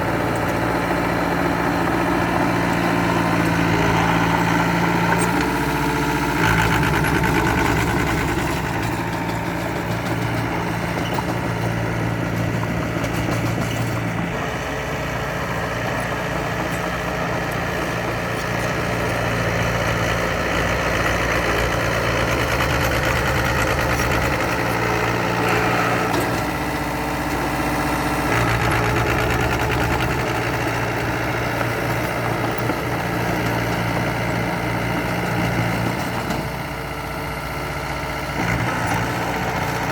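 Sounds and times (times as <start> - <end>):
heavy diesel machinery engine running: 0.0 - 39.9.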